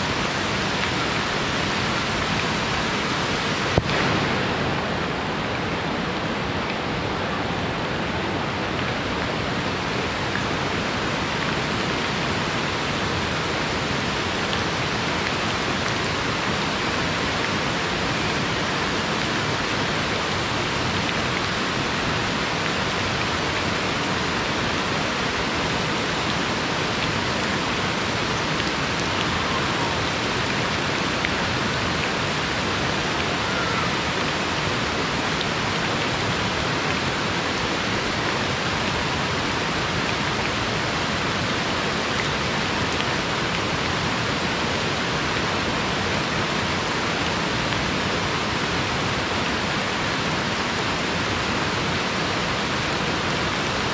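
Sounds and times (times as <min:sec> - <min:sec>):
rain falling: 0:00.0 - 0:53.9
river flowing over rocks: 0:00.0 - 0:53.9.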